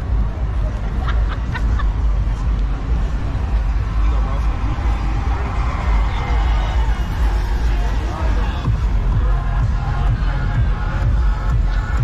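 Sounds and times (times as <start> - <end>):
car traffic: 0.0 - 12.0
low rumble: 0.0 - 12.0.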